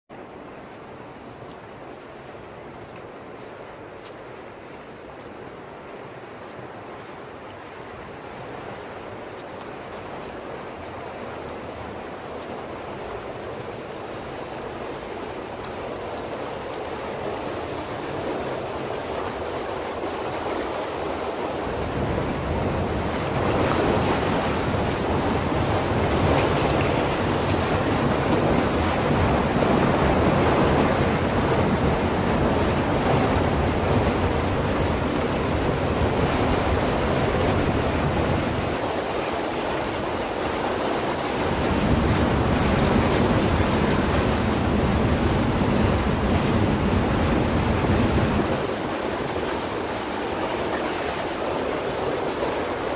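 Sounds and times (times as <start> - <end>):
fast water rushing: 0.1 - 52.9.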